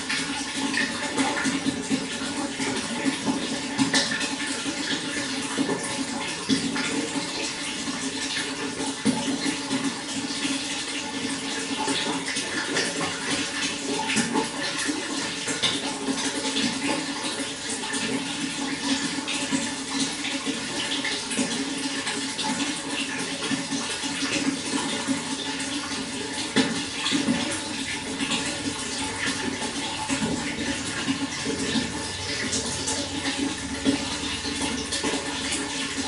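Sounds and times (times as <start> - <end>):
running water splashing: 0.0 - 36.0.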